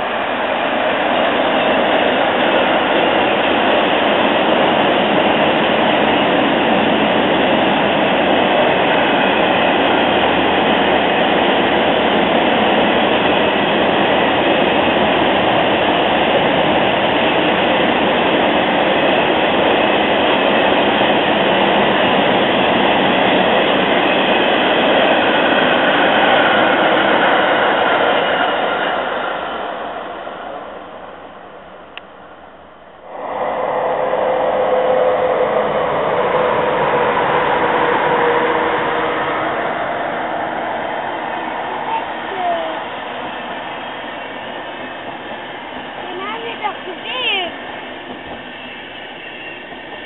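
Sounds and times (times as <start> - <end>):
train wheels running on rails: 0.0 - 32.3, 33.1 - 50.0.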